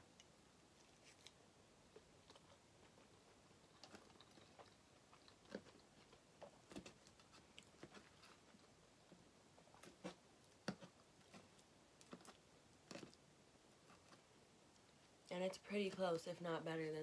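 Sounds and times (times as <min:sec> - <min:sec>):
quiet chewing: 0:00.1 - 0:15.3.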